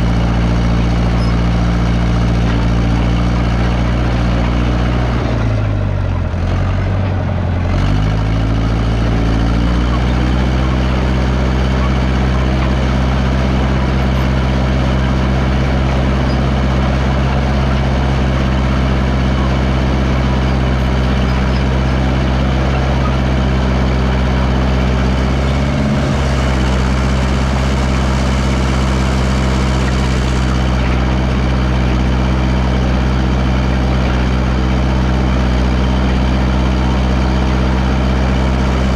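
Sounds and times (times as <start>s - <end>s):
dozer engine running under load: 0.0s - 38.9s.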